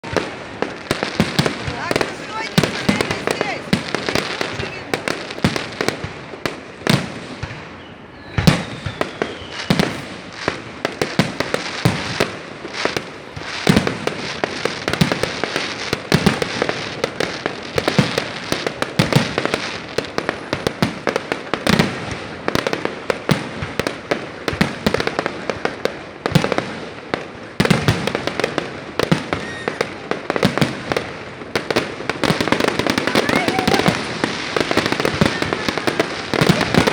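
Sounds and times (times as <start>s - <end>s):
fireworks bangs: 0.0s - 36.9s
fireworks crackle: 0.0s - 36.9s.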